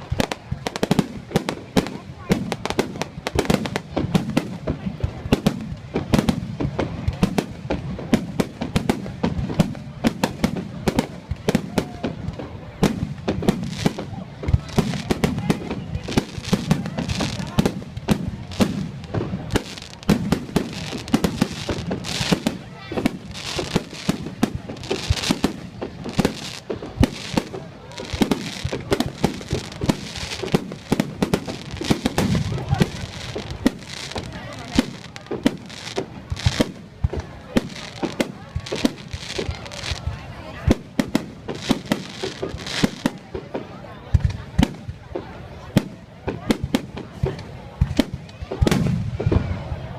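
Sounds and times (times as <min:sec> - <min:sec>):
fireworks bangs: 0:00.0 - 0:49.9
fireworks crackling hiss: 0:00.0 - 0:49.9.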